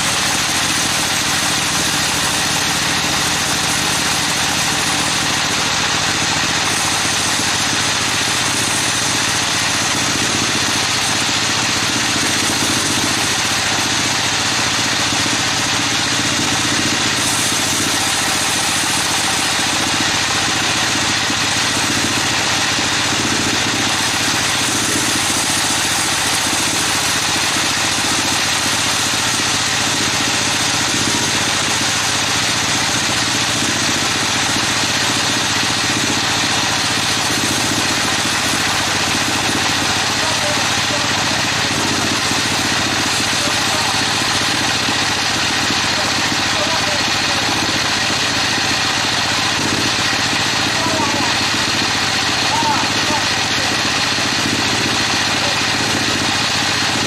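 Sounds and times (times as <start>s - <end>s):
band saw cutting a log: 0.0s - 57.0s.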